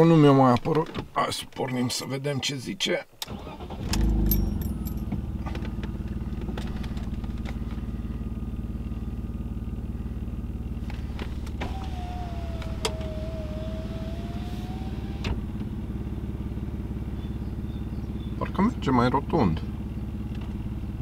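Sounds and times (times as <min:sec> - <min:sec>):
car engine idling: 0:03.3 - 0:21.0.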